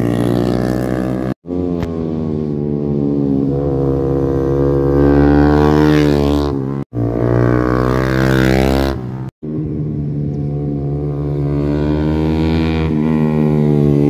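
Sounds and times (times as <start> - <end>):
motorcycles passing at high revs: 0.0 - 14.0.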